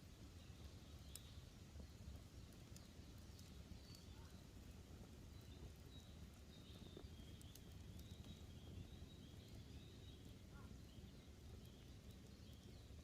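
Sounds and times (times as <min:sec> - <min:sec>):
campfire crackling: 0:00.0 - 0:13.0
low outdoor hush: 0:00.0 - 0:13.0
small birds chirping: 0:00.0 - 0:13.0.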